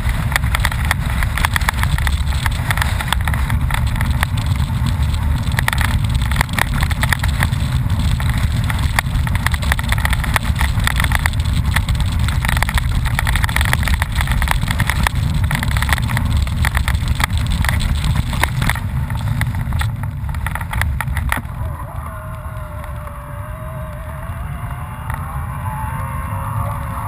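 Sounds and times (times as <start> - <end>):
tyres on stony dirt track: 0.0 - 27.0
wind buffeting microphone: 0.0 - 27.0.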